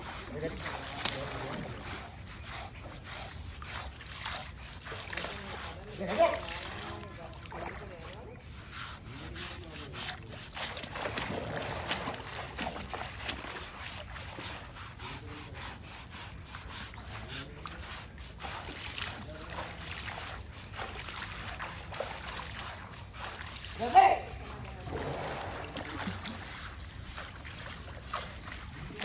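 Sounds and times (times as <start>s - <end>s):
scrubbing wet elephant skin: 0.0s - 29.0s.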